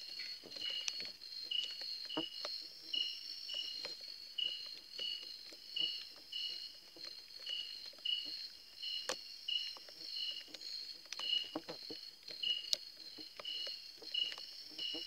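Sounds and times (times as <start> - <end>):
insect short chirp: 0.0 - 15.0.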